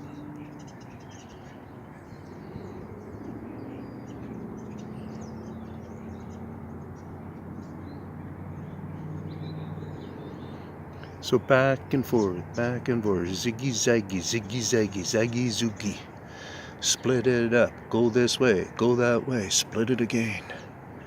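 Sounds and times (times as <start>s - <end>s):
bird chirps: 0.0s - 21.0s.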